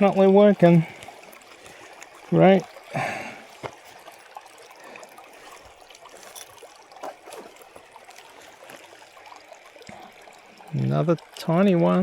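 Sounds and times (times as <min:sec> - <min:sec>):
creek water trickling: 0:00.0 - 0:12.0.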